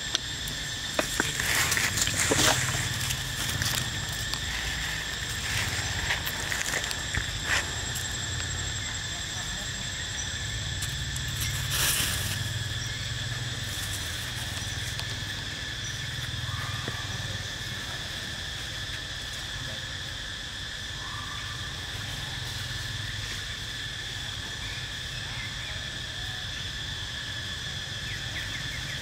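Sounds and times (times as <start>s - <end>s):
insect drone: 0.0s - 29.0s.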